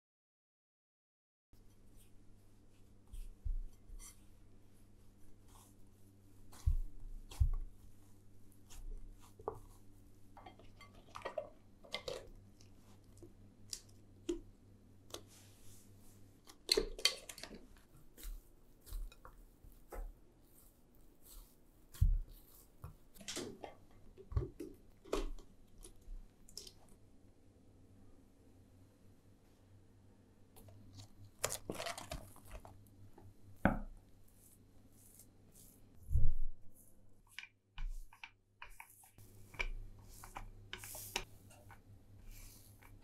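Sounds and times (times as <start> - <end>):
dough squishing and slapping: 1.7 - 26.9, 30.6 - 43.0.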